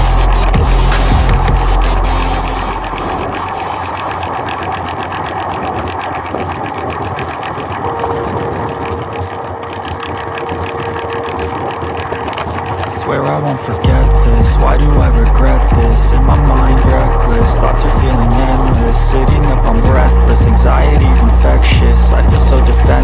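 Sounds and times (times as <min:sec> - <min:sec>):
faint steady hum: 0:00.0 - 0:23.0
fine rattle: 0:00.0 - 0:23.0
wind and tyre noise: 0:00.0 - 0:23.0.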